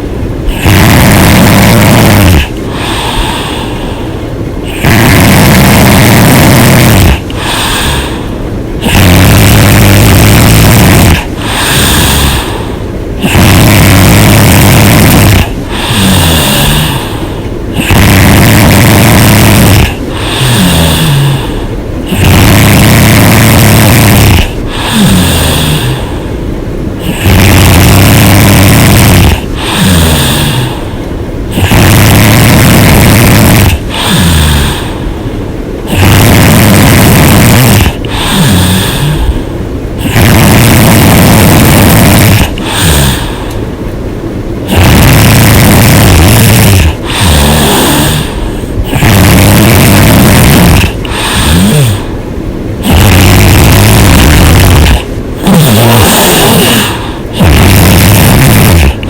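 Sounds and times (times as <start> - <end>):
woman snoring loudly: 0.5 - 4.0, 4.6 - 26.2, 27.0 - 30.9, 31.5 - 35.1, 35.8 - 43.6, 44.6 - 52.2, 52.8 - 59.0.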